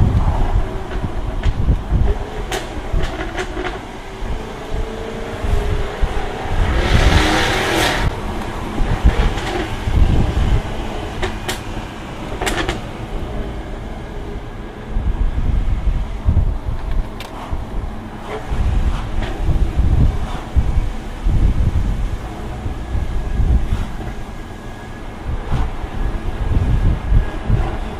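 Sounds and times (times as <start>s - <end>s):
car exhaust rumbling: 0.0s - 27.9s
exhaust crackles and pops: 0.0s - 27.9s.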